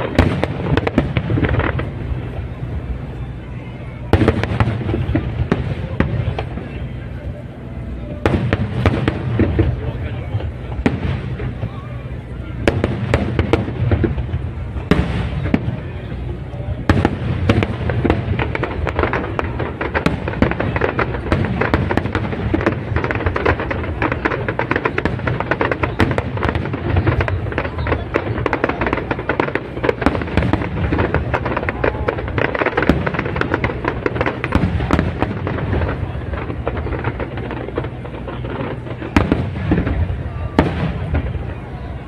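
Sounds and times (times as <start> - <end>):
fireworks bangs and crackling: 0.0 - 42.0
low rumble: 0.0 - 42.0.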